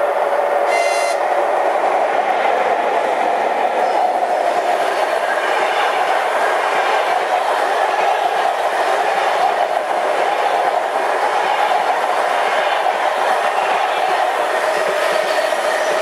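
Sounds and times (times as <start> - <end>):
train wheels rushing on rails: 0.0 - 16.0.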